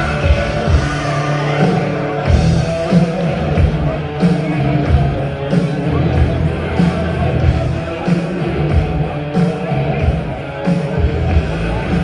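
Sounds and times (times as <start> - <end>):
loud rock music: 0.0 - 12.0.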